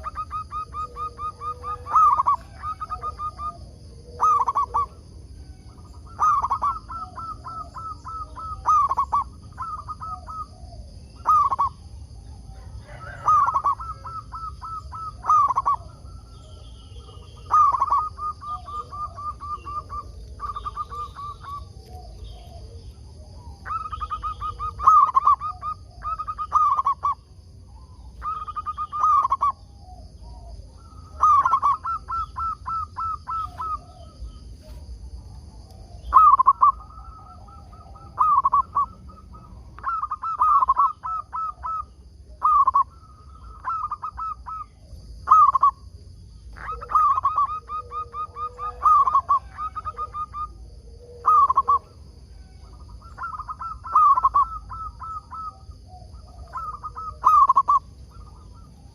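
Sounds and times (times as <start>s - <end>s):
dove cooing: 0.0s - 58.9s
steady high-pitched whine: 0.0s - 58.9s.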